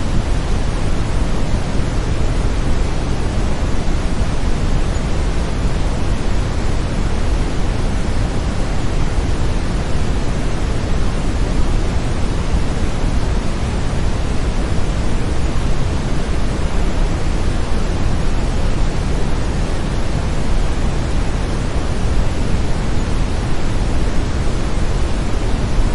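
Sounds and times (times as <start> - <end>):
low rushing noise hiss: 0.0 - 25.9.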